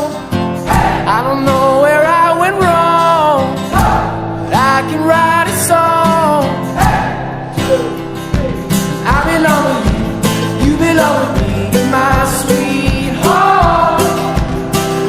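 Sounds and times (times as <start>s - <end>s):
song with guitar and beat: 0.0s - 15.0s.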